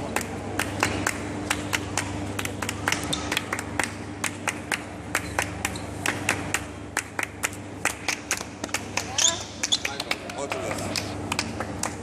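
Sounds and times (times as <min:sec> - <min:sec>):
hands clapping a steady beat: 0:00.0 - 0:12.0
steady low hum: 0:00.0 - 0:12.0.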